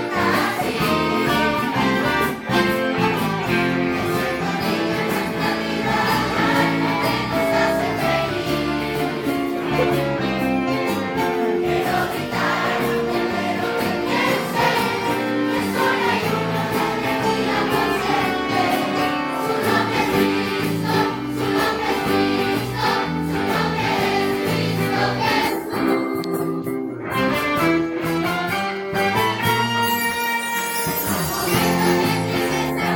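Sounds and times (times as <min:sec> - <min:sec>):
children's choir singing hymns: 0:00.0 - 0:02.4, 0:03.0 - 0:26.0, 0:30.9 - 0:32.9
instrumental accompaniment: 0:00.0 - 0:32.9.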